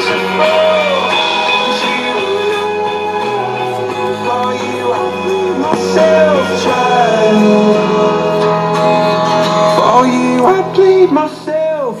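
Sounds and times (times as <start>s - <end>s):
guitar playing: 0.0s - 12.0s
person singing: 0.0s - 12.0s.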